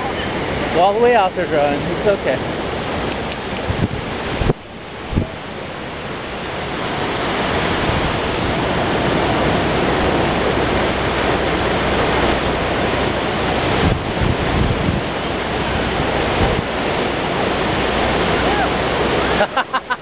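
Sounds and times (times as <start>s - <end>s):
wind buffeting microphone: 0.0s - 19.4s
ocean surf breaking: 0.0s - 20.0s.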